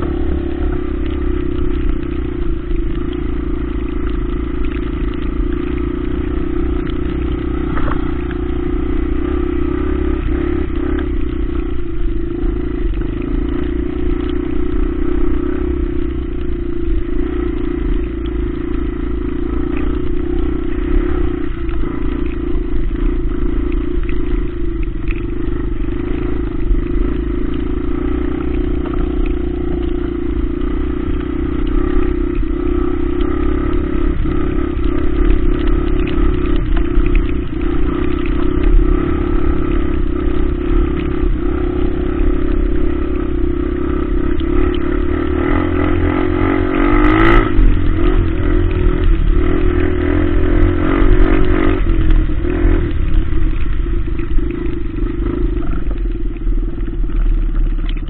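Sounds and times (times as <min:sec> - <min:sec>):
low rumble: 0:00.0 - 0:58.0
motorcycle engine running: 0:00.0 - 0:58.0.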